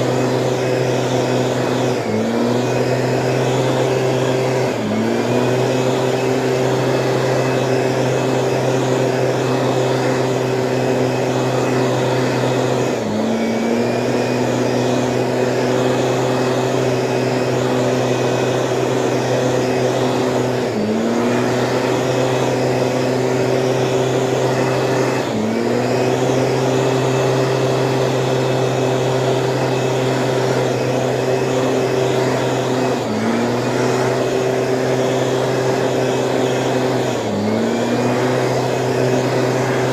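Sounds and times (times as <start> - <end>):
two-stroke sprayer engine running: 0.0 - 39.9.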